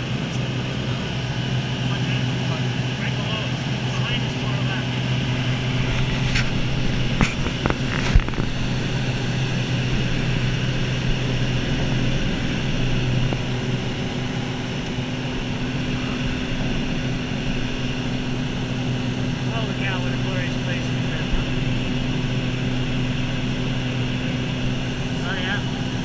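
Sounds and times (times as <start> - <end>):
propeller plane droning in cabin: 0.0 - 26.0.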